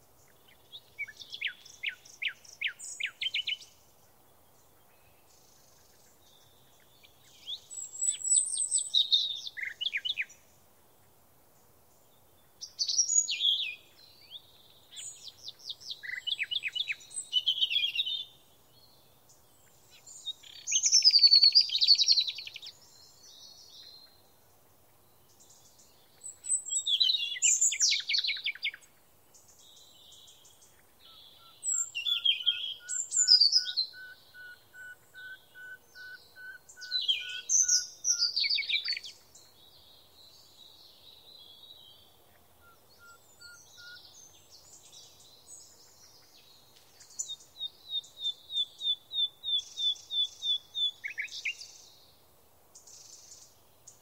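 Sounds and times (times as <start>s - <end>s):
songbirds twittering: 0.0s - 54.0s.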